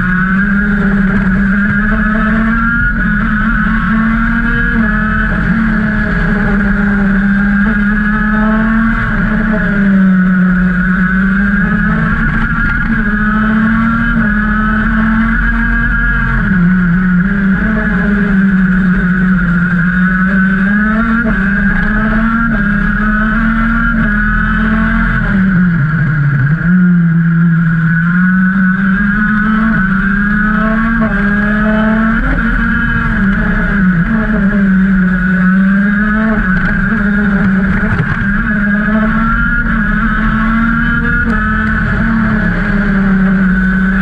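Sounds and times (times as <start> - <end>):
kart engine running hard: 0.0 - 44.0.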